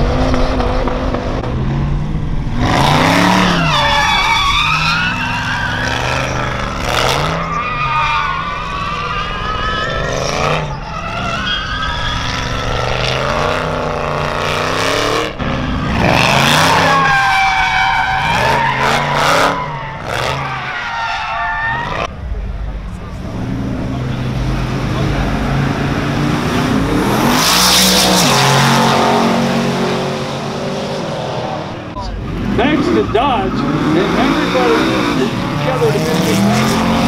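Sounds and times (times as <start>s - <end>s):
car engine revving: 0.0s - 37.0s
tyres screeching: 2.6s - 22.1s, 24.7s - 37.0s.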